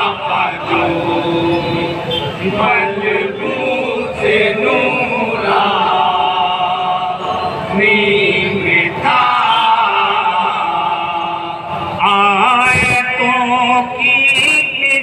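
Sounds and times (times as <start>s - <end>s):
men singing through microphones: 0.0s - 15.0s.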